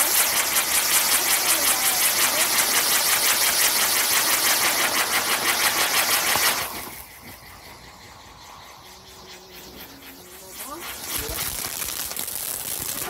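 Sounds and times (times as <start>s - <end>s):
firework spark jet hissing: 0.0s - 7.5s, 9.2s - 13.0s
faint sputtering: 0.0s - 13.0s.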